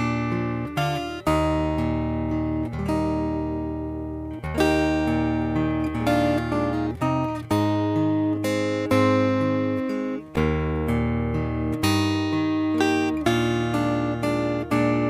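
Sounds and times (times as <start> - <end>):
plucked string chords: 0.0 - 15.0.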